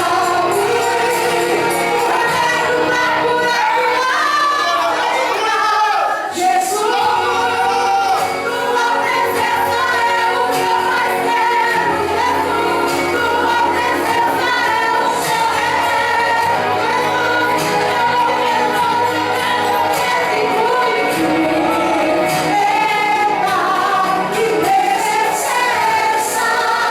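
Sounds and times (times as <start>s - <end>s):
voices singing gospel song: 0.0s - 26.9s.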